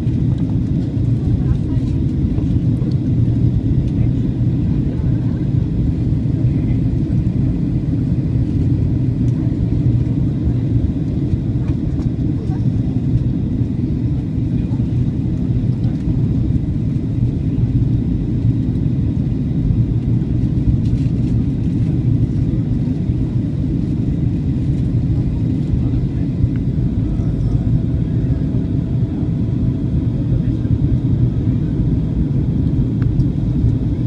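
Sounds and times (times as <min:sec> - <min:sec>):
airplane cabin rumble: 0:00.0 - 0:34.0.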